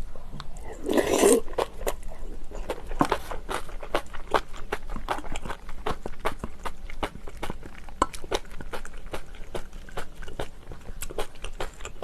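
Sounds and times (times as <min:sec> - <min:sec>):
mouth clicks and crackles: 0:00.4 - 0:12.0
person chewing and crunching food: 0:00.4 - 0:12.0.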